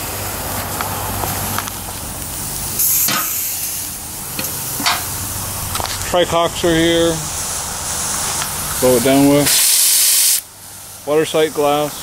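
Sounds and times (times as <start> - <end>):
steam boiler hissing: 0.5 - 12.0
sharp steam hiss: 0.6 - 12.0
fire crackling: 1.2 - 10.9.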